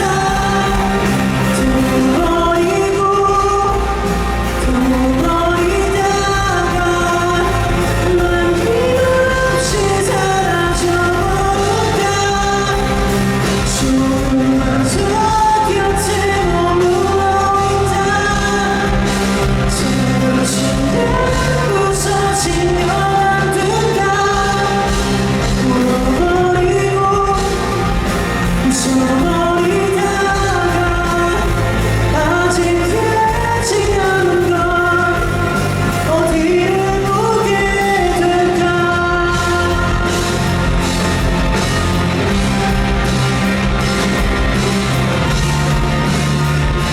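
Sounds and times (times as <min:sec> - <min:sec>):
man singing: 0:00.0 - 0:46.2
live pop-rock band playing: 0:00.0 - 0:46.9.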